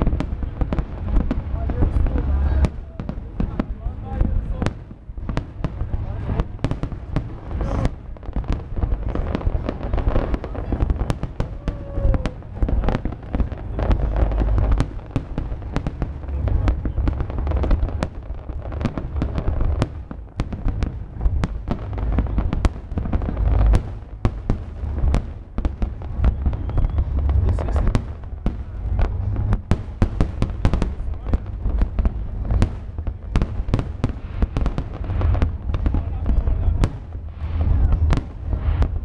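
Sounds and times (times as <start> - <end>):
deep rumble of booms: 0.0 - 39.0
fireworks bangs and crackles: 0.0 - 39.0.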